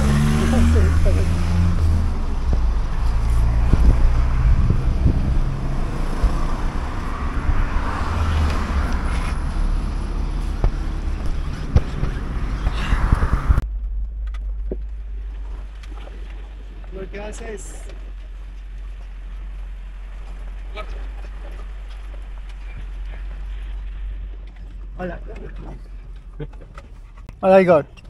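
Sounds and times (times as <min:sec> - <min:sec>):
car engine humming: 0:00.0 - 0:28.0
road noise: 0:00.0 - 0:28.0.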